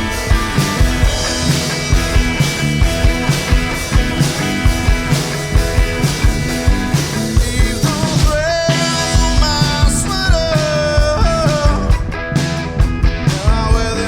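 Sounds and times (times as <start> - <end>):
bending melodic lead guitar: 0.0 - 14.0
rock music: 0.0 - 14.0.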